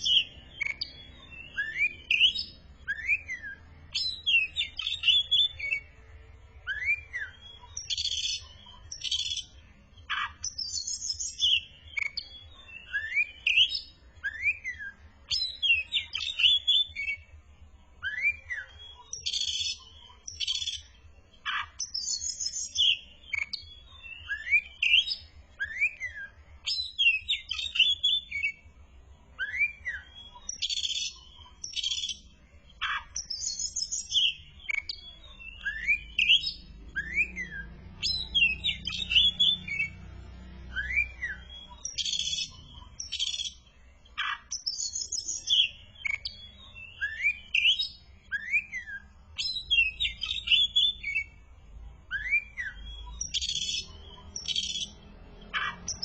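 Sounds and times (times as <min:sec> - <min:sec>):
bird singing whistles and chatter: 0:00.0 - 0:06.0, 0:06.6 - 0:17.3, 0:18.0 - 0:28.6, 0:29.3 - 0:51.4, 0:52.1 - 0:56.0.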